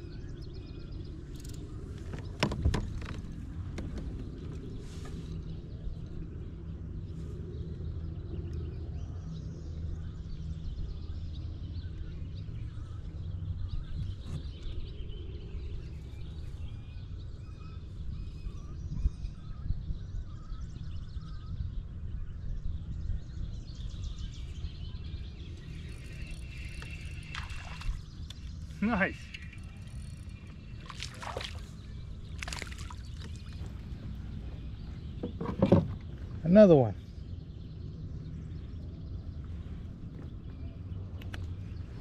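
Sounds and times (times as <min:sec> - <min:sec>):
birds chirping: 0:00.0 - 0:42.0
steady low rumble: 0:00.0 - 0:42.0.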